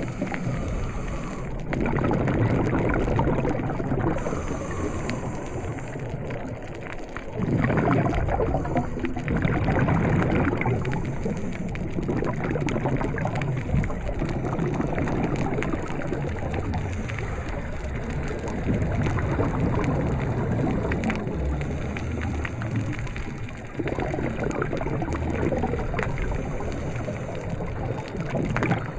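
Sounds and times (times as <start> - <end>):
underwater watery rumble: 0.0 - 28.9.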